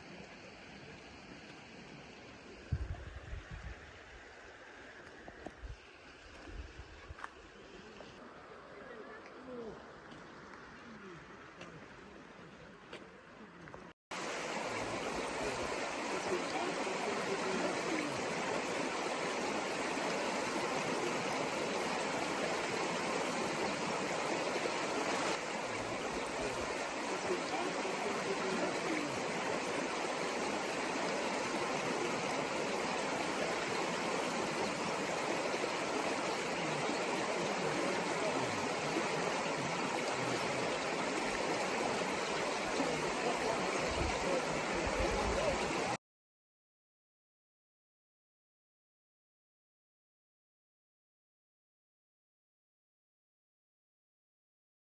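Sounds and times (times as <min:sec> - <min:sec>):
stream water flowing: 0:00.0 - 0:46.0.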